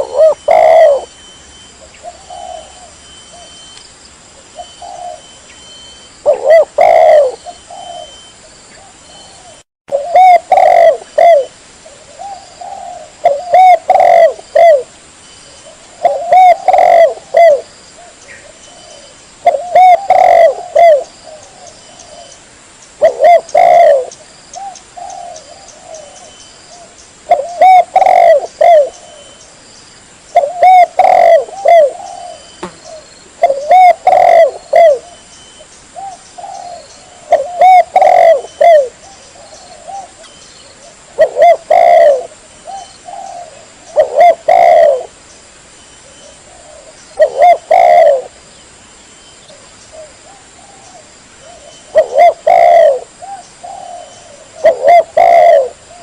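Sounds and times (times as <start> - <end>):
dove cooing: 0.0 - 1.2, 1.8 - 3.7, 4.4 - 14.9, 15.6 - 22.4, 23.0 - 29.4, 30.4 - 35.3, 36.0 - 45.2, 46.0 - 48.4, 49.5 - 56.0.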